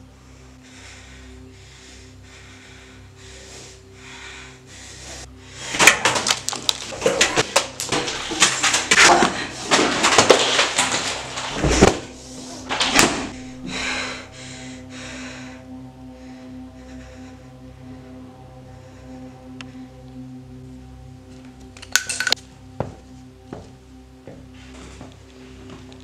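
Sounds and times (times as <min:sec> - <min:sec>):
quiet music with soft pulse: 0:00.0 - 0:26.0.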